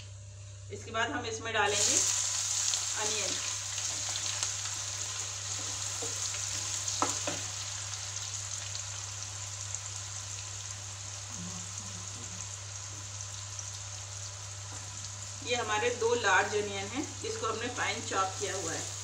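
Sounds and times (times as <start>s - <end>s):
onions sizzling in hot oil: 1.7s - 19.0s.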